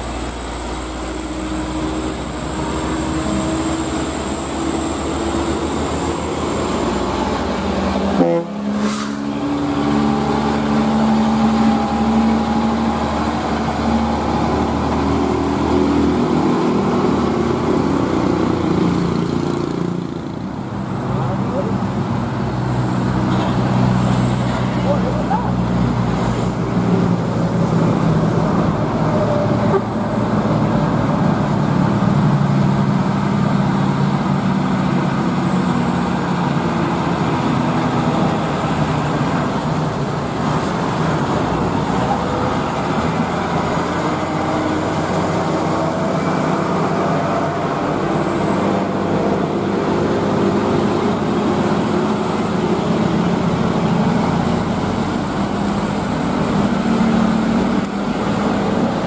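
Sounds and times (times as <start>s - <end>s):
heavy truck diesel engines: 0.0s - 59.0s
road noise: 0.0s - 59.0s.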